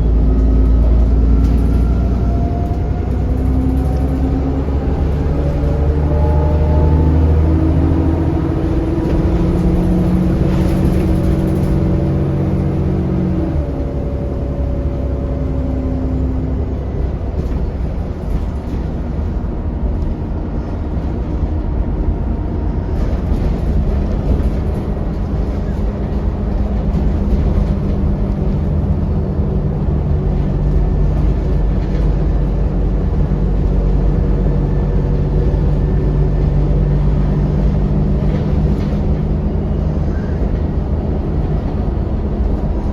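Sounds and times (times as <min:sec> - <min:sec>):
bus engine drone: 0:00.0 - 0:42.9
road rumble: 0:00.0 - 0:42.9.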